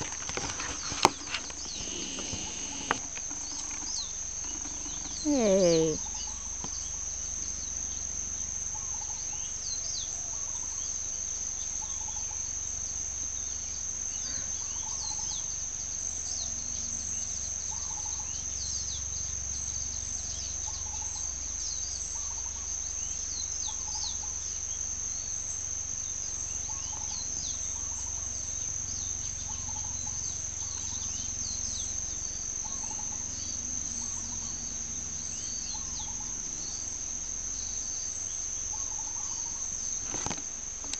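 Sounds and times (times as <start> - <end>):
high insect trill: 0.0 - 40.9.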